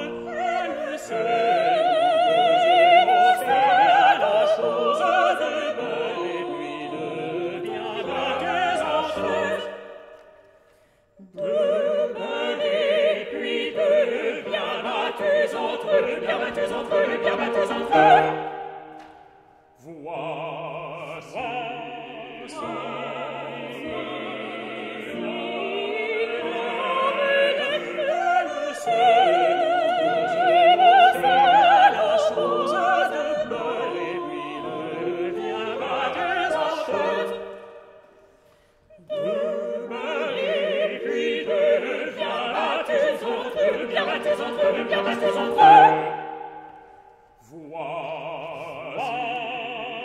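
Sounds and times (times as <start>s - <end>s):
operatic vocal quartet singing: 0.0s - 50.0s.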